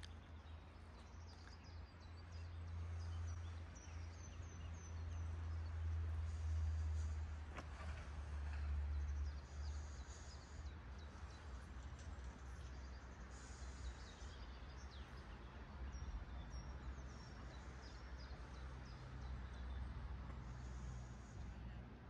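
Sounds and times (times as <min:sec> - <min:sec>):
birds chirping: 0:00.0 - 0:21.8.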